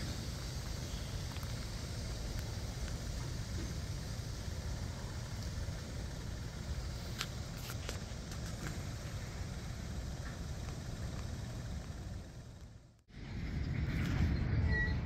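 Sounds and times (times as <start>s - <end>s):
low engine-like rumble: 0.0s - 15.0s.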